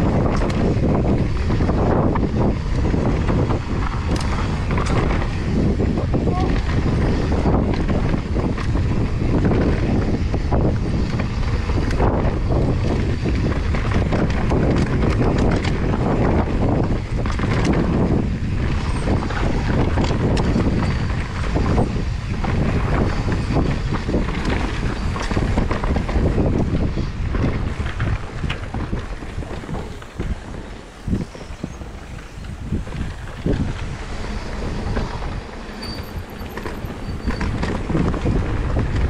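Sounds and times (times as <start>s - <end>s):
bike knocking and rattling: 0.0s - 39.0s
bike tyres on dirt trail: 0.0s - 39.0s
wind noise on microphone: 0.0s - 39.0s.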